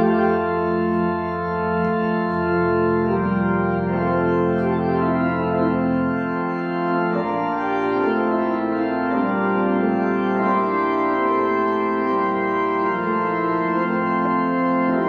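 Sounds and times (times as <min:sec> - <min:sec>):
organ playing held chords: 0:00.0 - 0:15.0.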